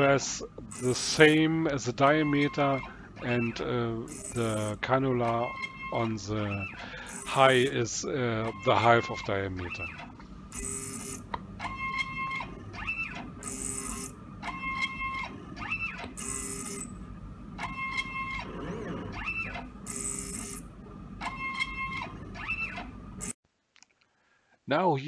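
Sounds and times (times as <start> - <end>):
stepper motors whining: 0.0 - 16.9, 17.6 - 23.4.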